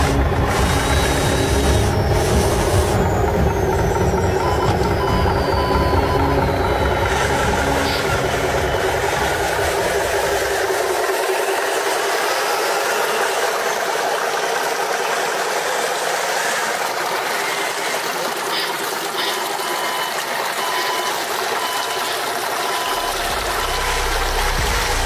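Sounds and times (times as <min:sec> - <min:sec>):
toy truck motor whirring: 0:00.0 - 0:25.0.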